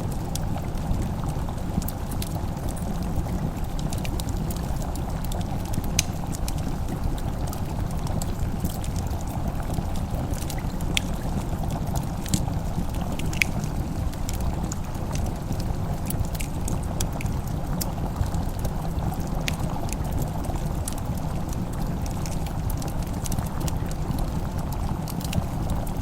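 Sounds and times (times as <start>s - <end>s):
fireplace crackling: 0.0s - 26.0s.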